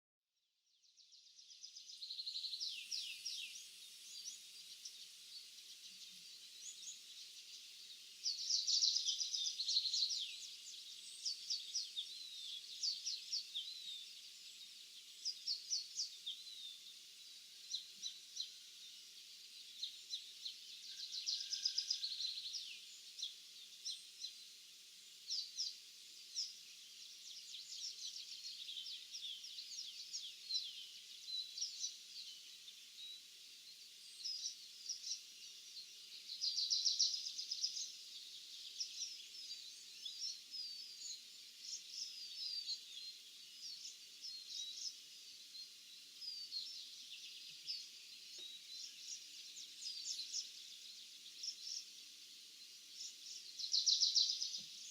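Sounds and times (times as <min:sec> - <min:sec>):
small birds singing and chirping: 0:00.5 - 0:54.9
faint steady hiss: 0:00.8 - 0:54.9.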